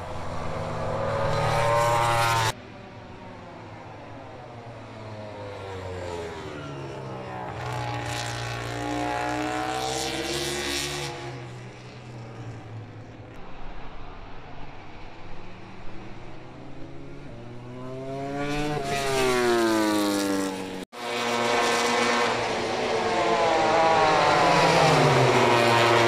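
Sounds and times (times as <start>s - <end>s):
racing motorcycle passing at high revs: 0.0s - 2.6s, 4.9s - 13.2s, 15.4s - 26.0s.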